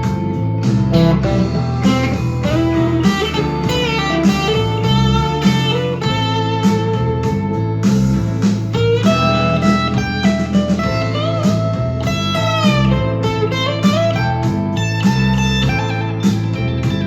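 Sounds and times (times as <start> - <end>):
electric guitar lead with bends: 0.0 - 17.0
steady rhythm beat: 0.0 - 17.0.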